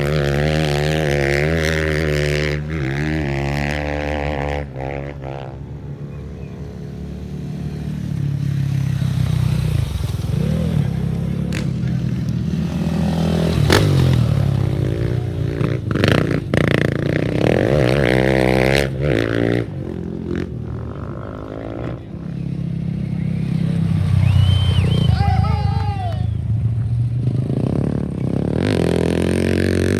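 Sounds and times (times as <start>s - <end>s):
off-road race engines revving: 0.0s - 29.9s.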